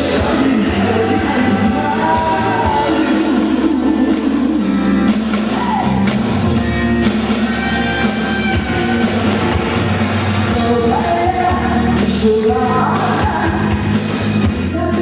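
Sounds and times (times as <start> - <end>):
bass: 0.0 - 15.0
drums: 0.0 - 15.0
electric guitar line: 0.0 - 15.0.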